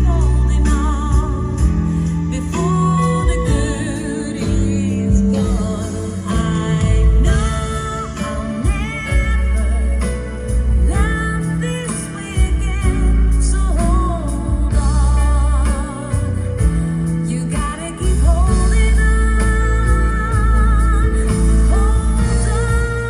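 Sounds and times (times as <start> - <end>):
pop ballad on car stereo: 0.0 - 23.0.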